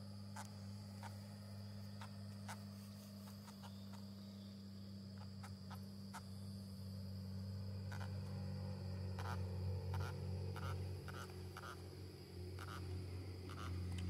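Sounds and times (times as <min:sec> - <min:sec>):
insects trilling: 0:00.0 - 0:14.0
low hum: 0:00.0 - 0:14.0.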